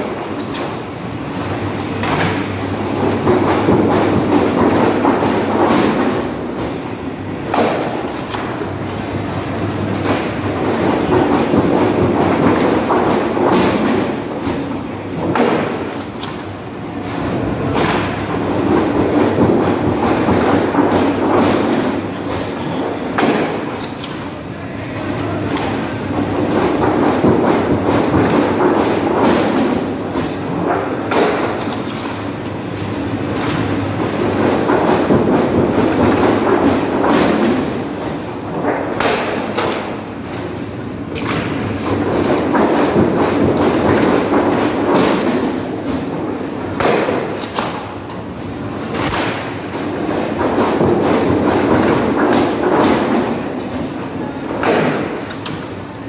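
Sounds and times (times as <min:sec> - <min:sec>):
roller machine rumbling: 0:00.0 - 0:56.0.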